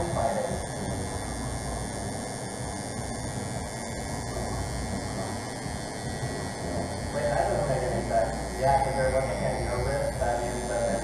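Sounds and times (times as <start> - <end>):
tattoo machine buzzing: 0.0 - 11.0.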